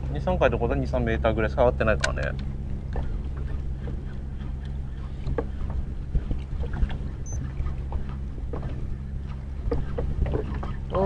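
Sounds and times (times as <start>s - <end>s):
steady low hum: 0.0s - 11.0s
water slapping against hull: 0.0s - 11.0s.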